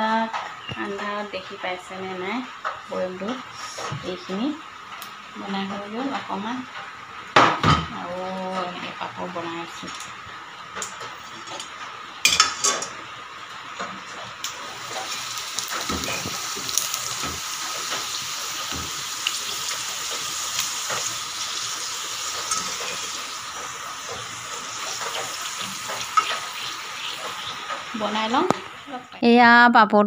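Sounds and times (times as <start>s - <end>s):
frying in hot oil sizzling: 0.0s - 29.2s.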